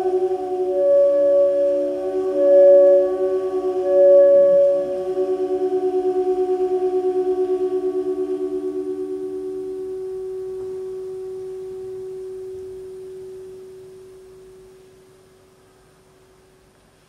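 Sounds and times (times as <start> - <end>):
soprano saxophone long note: 0.0 - 15.0
lower beating tone: 0.0 - 15.6.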